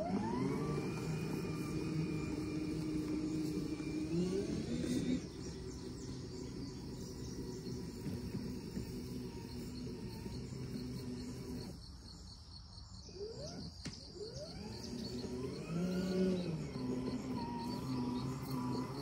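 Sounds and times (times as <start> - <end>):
lawn mower motor whining: 0.0 - 19.0.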